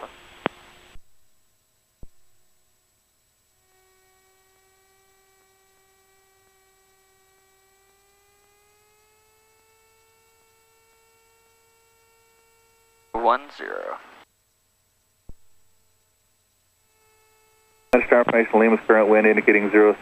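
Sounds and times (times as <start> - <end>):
faint electrical whine: 0.0 - 20.0.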